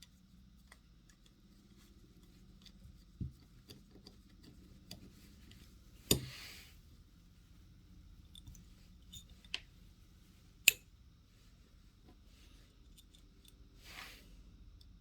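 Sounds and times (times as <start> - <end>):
soft rustle: 0.0 - 10.6, 11.2 - 13.2, 13.8 - 14.5.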